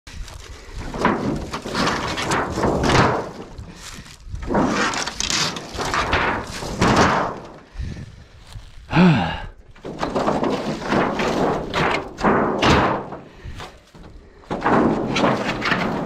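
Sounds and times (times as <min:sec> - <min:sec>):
metal roofing sheets scraping and rattling: 0:00.1 - 0:08.0, 0:09.7 - 0:16.0.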